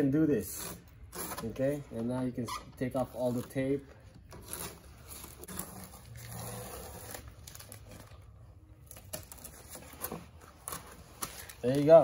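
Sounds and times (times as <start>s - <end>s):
masking tape peeling and crumpling: 0.4s - 12.0s.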